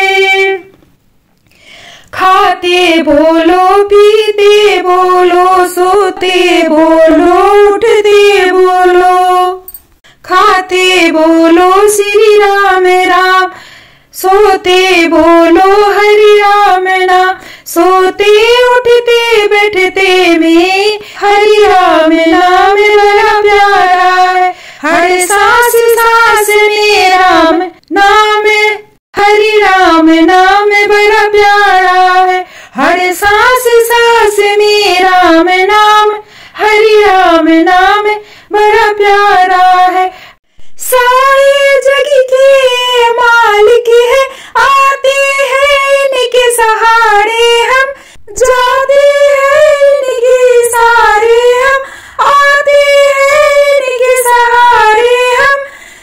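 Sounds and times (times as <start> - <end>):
woman singing unaccompanied: 0.0 - 0.8, 2.1 - 40.2, 40.8 - 55.8.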